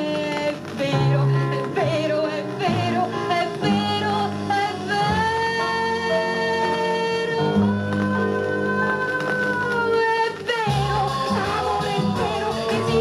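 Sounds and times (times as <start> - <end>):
pop song from record player: 0.0 - 13.0.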